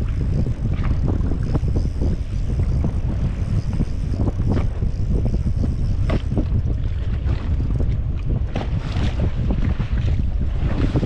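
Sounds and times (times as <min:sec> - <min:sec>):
boat running at speed: 0:00.0 - 0:11.0
wind rumble on microphone: 0:00.0 - 0:11.0.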